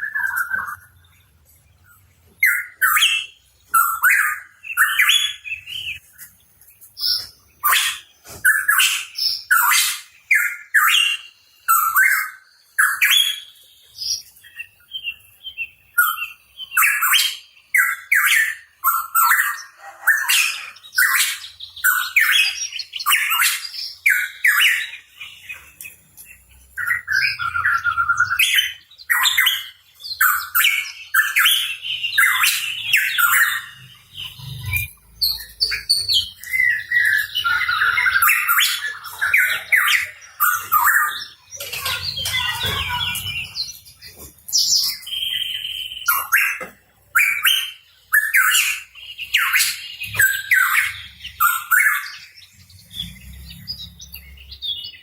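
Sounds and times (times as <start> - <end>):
bird chirping and whistling: 0.0 - 1.2, 2.4 - 6.1, 7.0 - 55.0.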